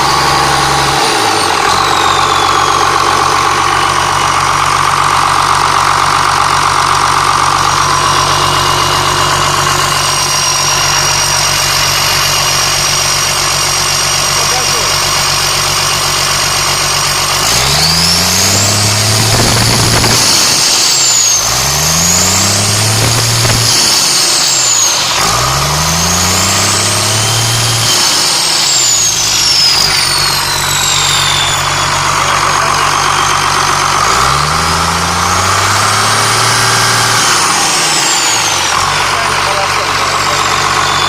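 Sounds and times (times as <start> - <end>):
turbo whistle: 0.0 - 4.5, 7.6 - 41.0
diesel engine revving: 0.0 - 41.0.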